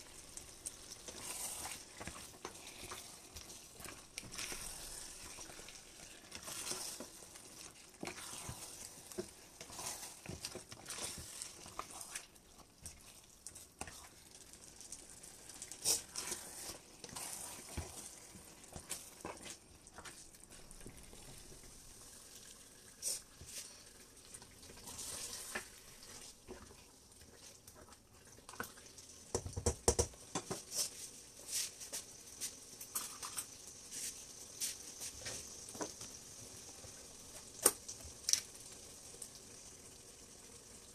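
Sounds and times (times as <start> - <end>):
spatula stirring in a pot: 0.0 - 38.5
stew frying and sizzling: 0.0 - 40.9.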